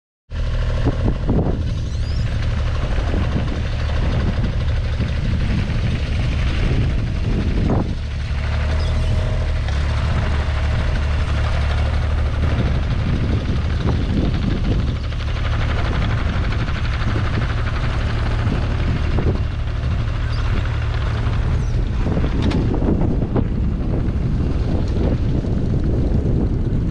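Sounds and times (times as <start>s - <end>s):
excavator diesel engine running: 0.3s - 26.9s.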